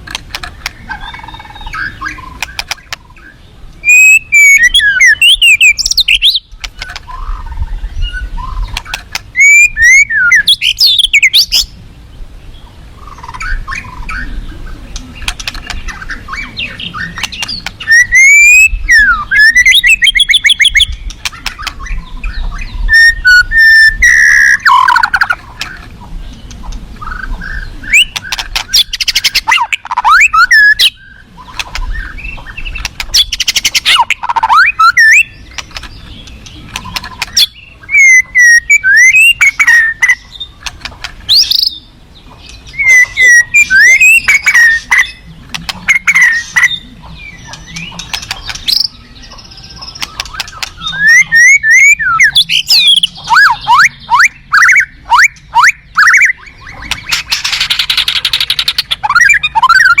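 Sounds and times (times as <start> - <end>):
bird singing varied song: 0.0 - 60.0.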